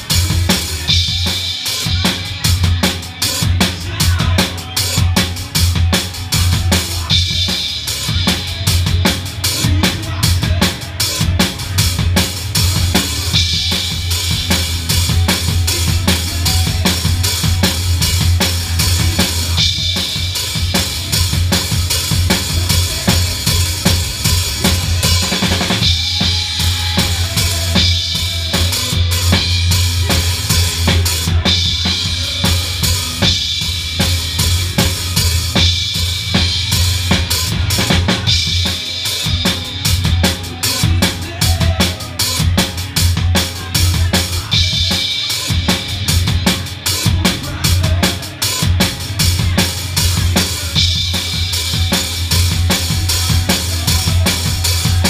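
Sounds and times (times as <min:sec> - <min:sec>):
bass drum: 0:00.0 - 0:55.0.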